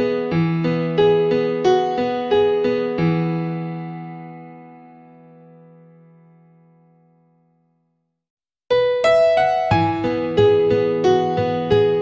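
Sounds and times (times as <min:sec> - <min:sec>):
piano notes: 0:00.0 - 0:07.5, 0:08.7 - 0:12.0.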